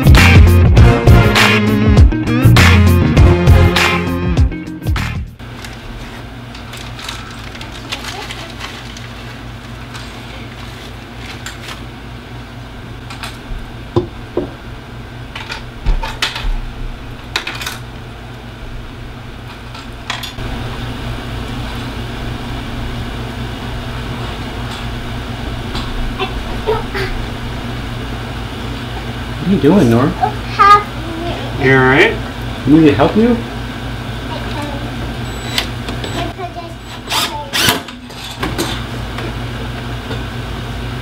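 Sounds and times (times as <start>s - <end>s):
air conditioner humming: 0.0s - 41.0s.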